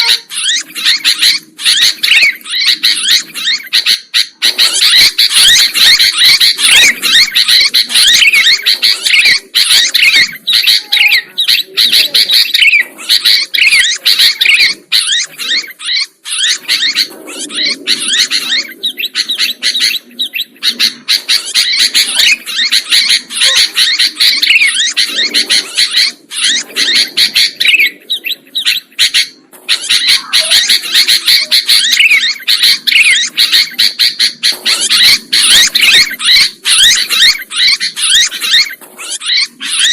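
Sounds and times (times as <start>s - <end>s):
bulbuls chirping and warbling: 0.0s - 39.9s.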